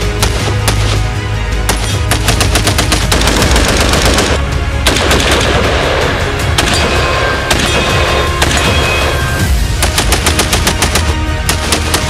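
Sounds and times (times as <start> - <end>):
rapid rifle gunshots: 0.0 - 1.1, 1.7 - 12.0
background music: 0.0 - 12.0.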